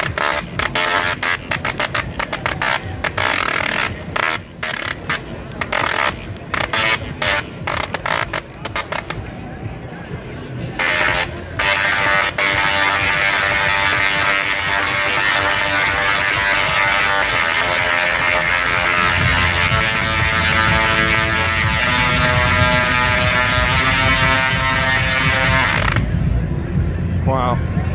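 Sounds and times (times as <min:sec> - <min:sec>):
high-voltage spark generator buzzing: 0:00.0 - 0:09.1, 0:10.8 - 0:26.1.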